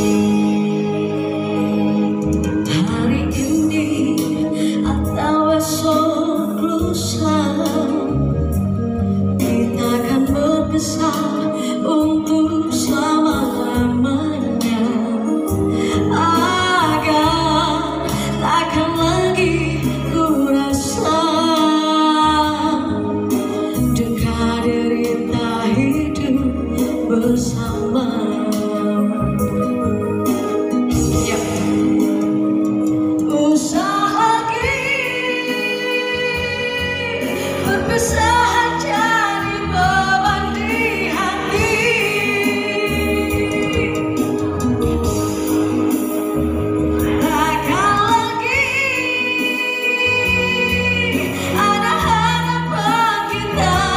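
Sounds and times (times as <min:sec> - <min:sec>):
woman singing: 0:00.0 - 0:30.2, 0:30.9 - 0:32.5, 0:33.2 - 0:45.3, 0:47.0 - 0:53.9
backing music: 0:00.0 - 0:53.9.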